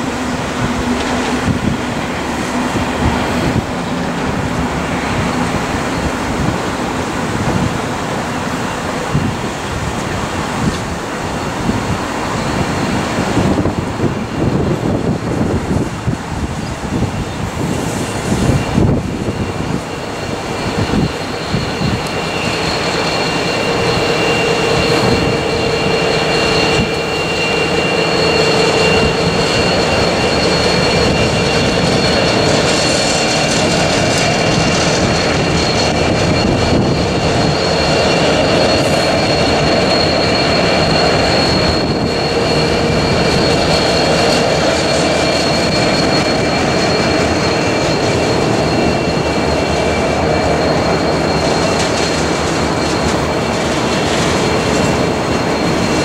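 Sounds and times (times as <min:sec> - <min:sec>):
locomotive engines whining and rumbling: 0:00.0 - 0:56.0
train wagons rolling by: 0:00.0 - 0:56.0.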